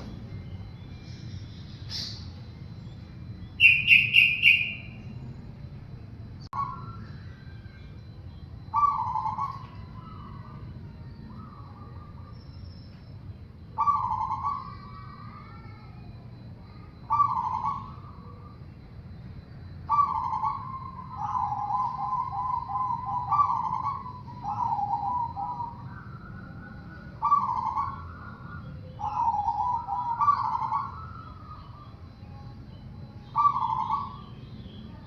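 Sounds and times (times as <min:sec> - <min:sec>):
dove cooing with trills: 0:03.3 - 0:05.6, 0:06.6 - 0:12.6, 0:13.5 - 0:35.0.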